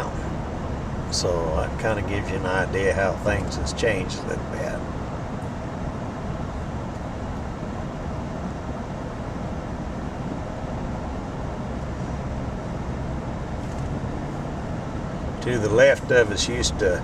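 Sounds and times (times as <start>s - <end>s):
road and engine noise in cab: 0.0s - 17.0s.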